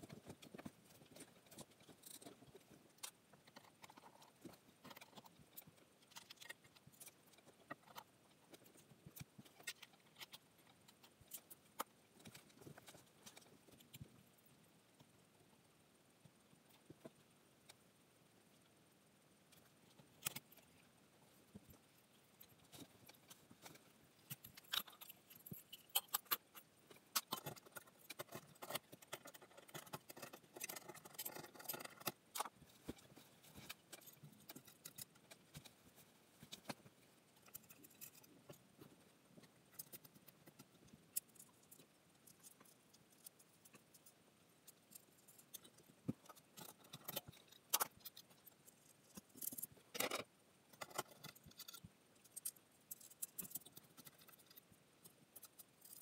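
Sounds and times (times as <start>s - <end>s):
rustling: 0.0s - 15.3s, 19.4s - 56.0s.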